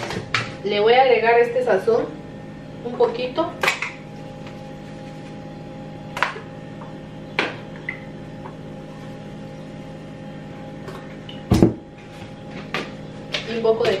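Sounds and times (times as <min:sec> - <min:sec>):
steady appliance hum: 0:00.0 - 0:14.0.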